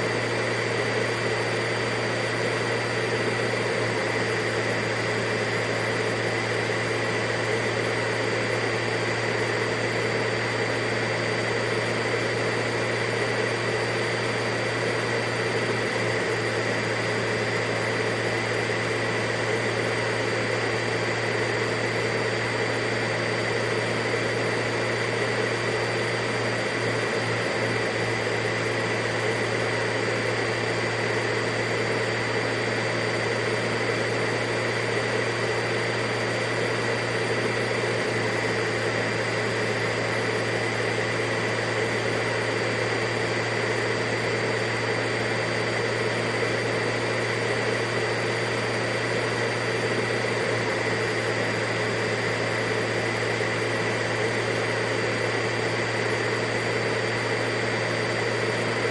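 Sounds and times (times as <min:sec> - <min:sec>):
vacuum cleaner motor running: 0:00.0 - 0:58.9.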